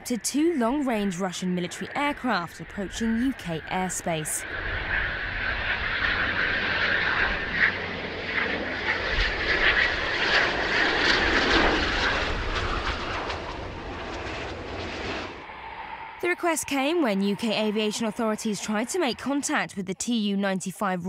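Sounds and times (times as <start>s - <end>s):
jet fighter engine whine and rumble: 0.0s - 20.5s.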